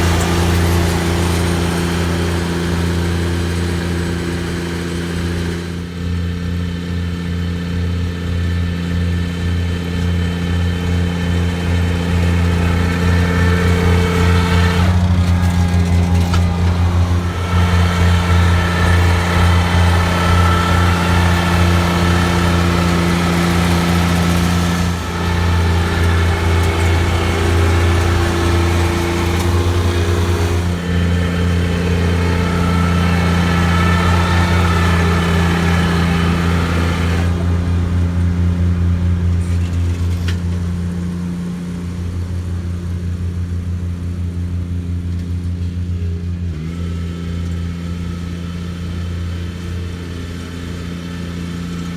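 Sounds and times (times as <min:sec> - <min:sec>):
lawn machine engine running: 0:00.0 - 0:51.9.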